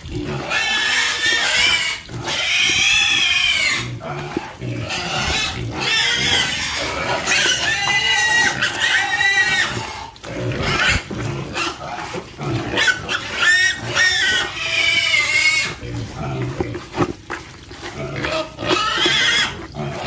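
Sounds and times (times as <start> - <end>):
pigs squealing: 0.0 - 20.0.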